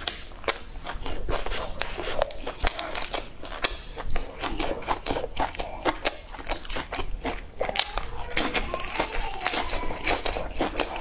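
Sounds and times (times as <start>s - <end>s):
chewing and crunching: 0.0s - 11.0s
lettuce leaf crackling: 0.0s - 11.0s.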